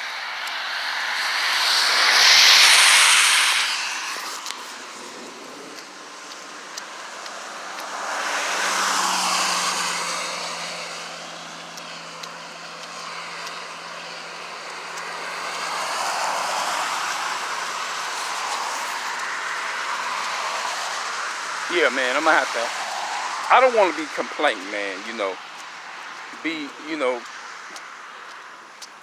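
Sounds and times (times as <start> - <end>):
car tyre hiss on wet road: 0.0 - 29.0.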